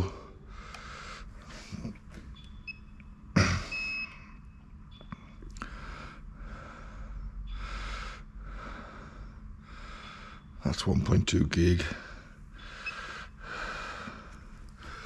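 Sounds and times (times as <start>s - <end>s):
soft regular breathing: 0.0s - 2.3s, 3.7s - 10.8s, 11.6s - 15.0s.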